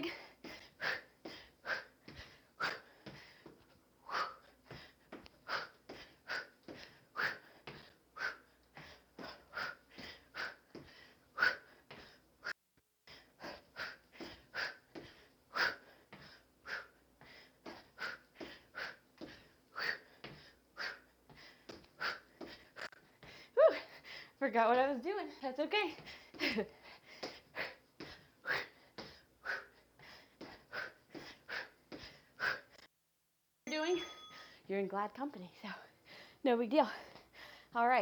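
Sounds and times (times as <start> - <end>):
woman breathing hard: 0.0 - 24.4, 26.0 - 32.8, 35.9 - 36.4, 37.0 - 37.8.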